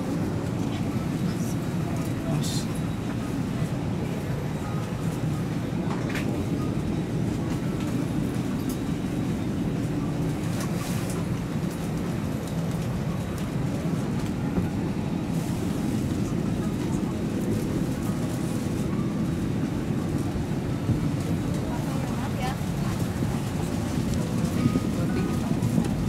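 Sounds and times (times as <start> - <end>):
cabin ventilation rumble: 0.0 - 26.0.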